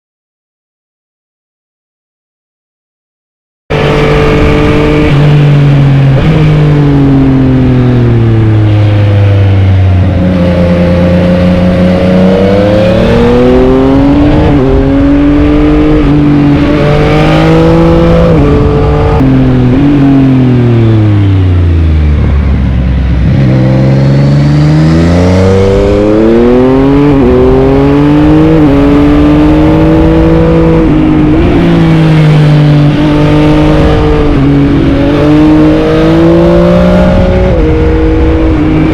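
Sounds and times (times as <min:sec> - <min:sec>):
motorcycle engine revving: 0:03.7 - 0:38.9.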